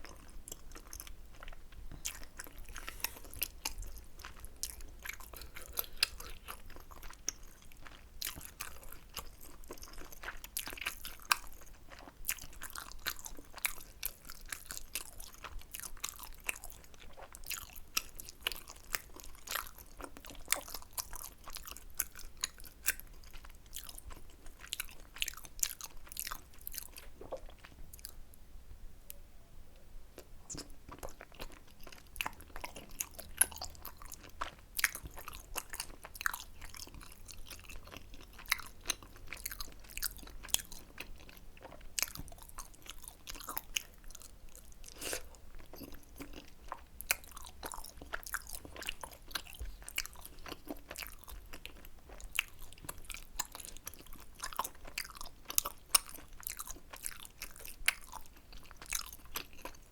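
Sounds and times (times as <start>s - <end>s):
person chewing food: 0.0s - 28.2s, 30.1s - 59.9s.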